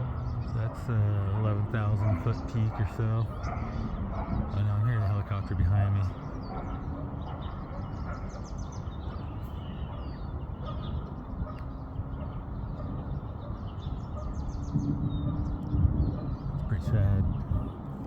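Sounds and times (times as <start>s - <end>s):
helicopter rotor drone: 0.0s - 18.0s
songbird trills: 0.0s - 18.0s.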